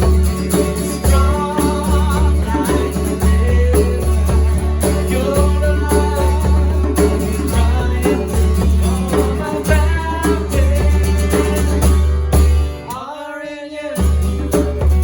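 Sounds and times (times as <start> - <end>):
person singing: 0.0 - 12.1
worship band playing: 0.0 - 13.2, 14.0 - 15.0.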